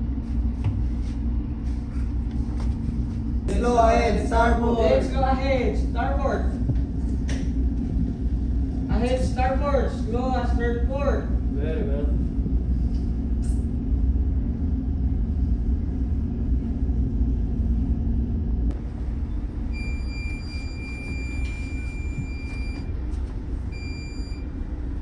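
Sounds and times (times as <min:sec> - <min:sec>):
ship engines rumbling: 0:01.2 - 0:25.0.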